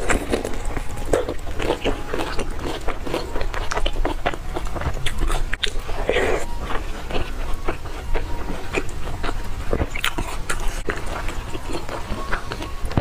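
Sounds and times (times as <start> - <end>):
wet chewing and biting: 0.0 - 13.0.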